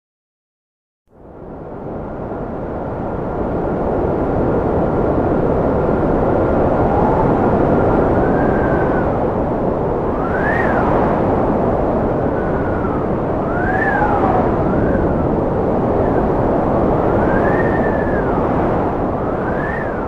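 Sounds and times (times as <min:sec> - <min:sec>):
strong wind howling: 0:01.1 - 0:20.0.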